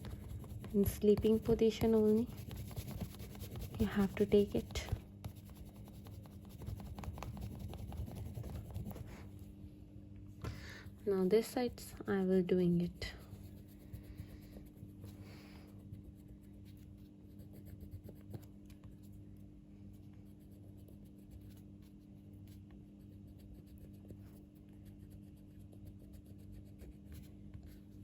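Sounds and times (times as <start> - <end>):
colouring strokes scratching paper: 0.0 - 9.4, 11.1 - 19.2, 20.2 - 28.0
low steady hum: 0.0 - 28.0.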